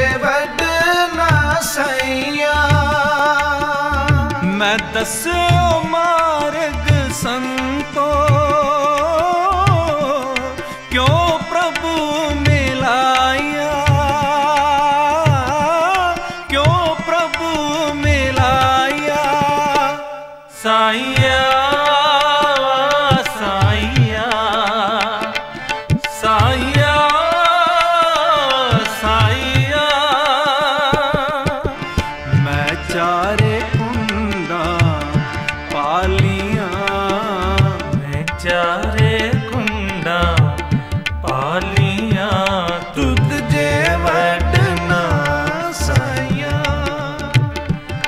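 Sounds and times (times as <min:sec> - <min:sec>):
harmonium melody: 0:00.0 - 0:48.0
tabla drumming: 0:00.0 - 0:48.0
wordless singing voice: 0:00.0 - 0:48.0.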